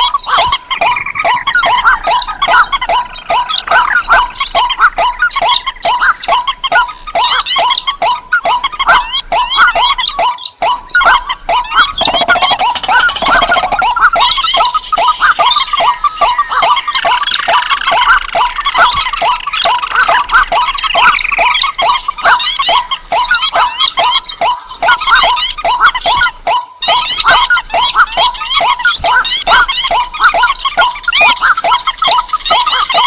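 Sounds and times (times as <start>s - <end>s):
chorus of bird calls: 0.0s - 33.0s.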